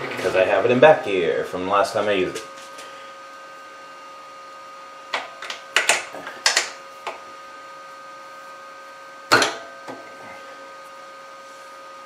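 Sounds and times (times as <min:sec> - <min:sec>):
faint machine hum: 0:00.0 - 0:12.0.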